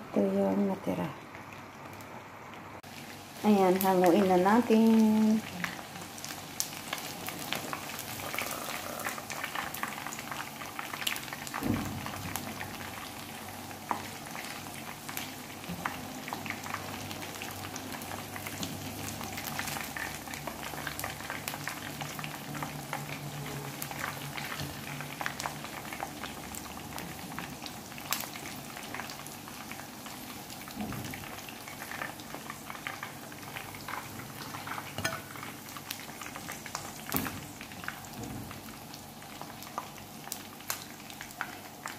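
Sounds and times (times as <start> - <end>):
chicken frying in hot oil: 2.8 - 41.9.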